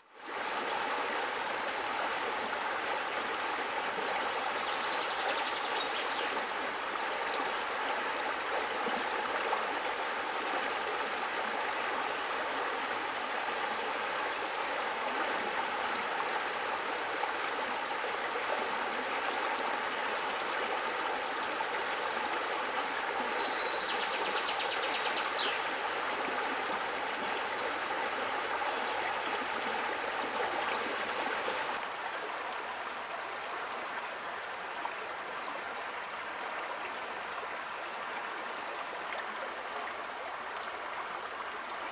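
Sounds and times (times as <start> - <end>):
flowing stream: 0.0 - 41.9.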